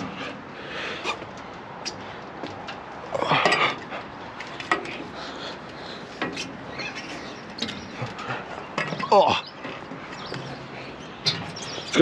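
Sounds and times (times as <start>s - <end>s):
knocks and clatter of climbing: 0.0s - 12.0s.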